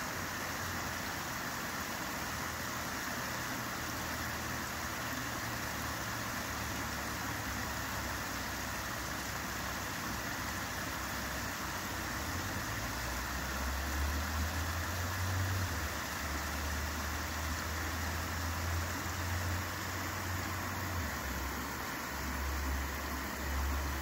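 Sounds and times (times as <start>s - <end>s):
water trickling through dam: 0.0s - 24.0s.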